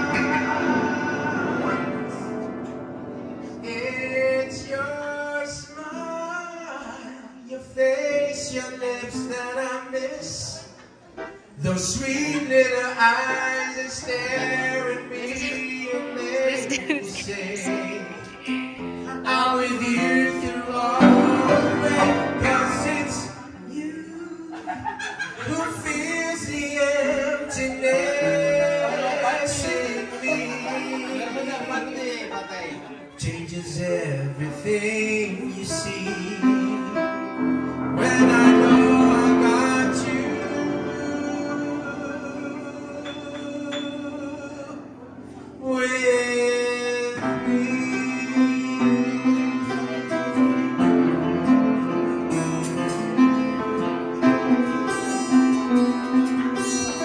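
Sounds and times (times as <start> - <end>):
man singing a ballad: 0.0 - 2.8, 3.4 - 10.8, 11.5 - 57.0
upright piano playing: 0.0 - 7.0, 11.1 - 24.4, 25.4 - 32.9, 33.9 - 57.0.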